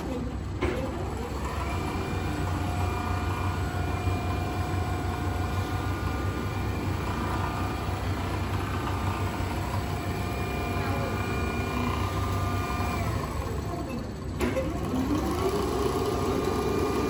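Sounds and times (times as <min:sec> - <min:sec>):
machine whining tones: 0:00.0 - 0:17.0
quilting machine humming: 0:00.0 - 0:17.0.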